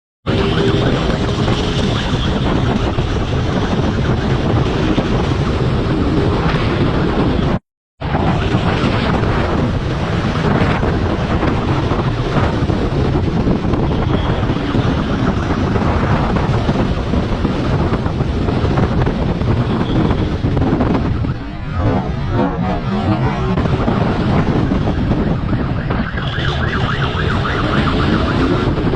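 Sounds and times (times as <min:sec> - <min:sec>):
wind buffeting microphone: 0:00.2 - 0:28.9.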